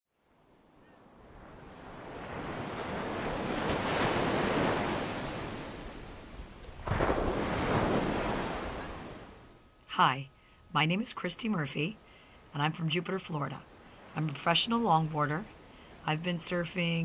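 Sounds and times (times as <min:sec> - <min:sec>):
ocean waves breaking: 0:00.2 - 0:09.6, 0:11.6 - 0:17.0.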